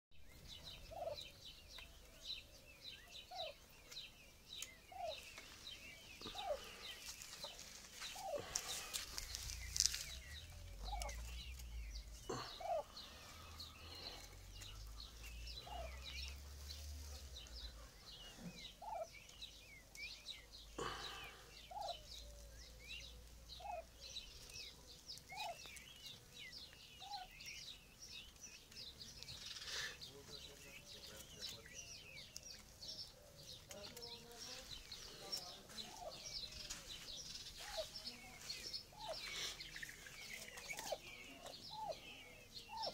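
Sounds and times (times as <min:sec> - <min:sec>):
young peafowl peeping: 0:00.2 - 0:42.9.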